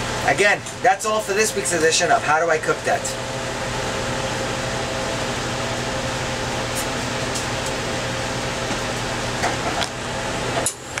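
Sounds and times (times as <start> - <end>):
machine fans humming: 0.0 - 11.0.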